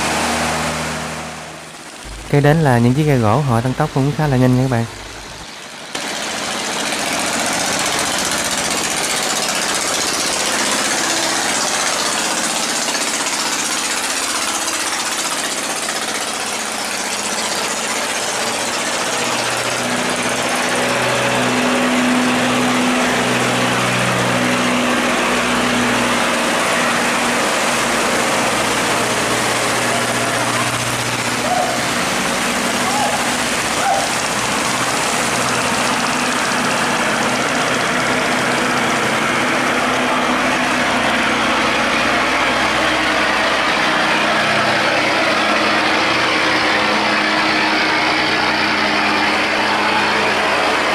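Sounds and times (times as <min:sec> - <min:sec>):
boat engines running: 0:00.0 - 0:50.9
low engine drone: 0:00.0 - 0:50.9
rushing churning water: 0:00.0 - 0:50.9.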